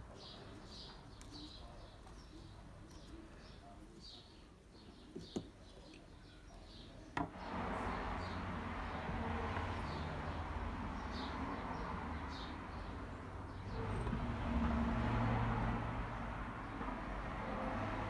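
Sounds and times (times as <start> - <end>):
small birds chirping: 0.0 - 17.1.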